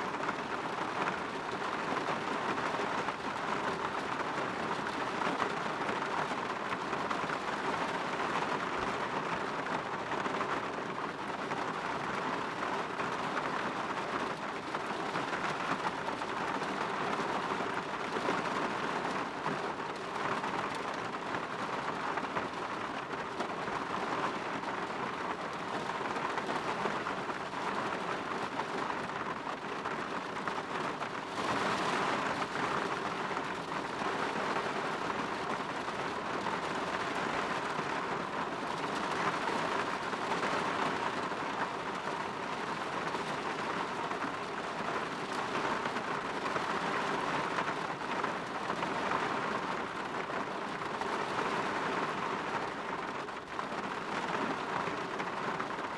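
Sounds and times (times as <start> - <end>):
rain pattering on window: 0.1 - 55.9.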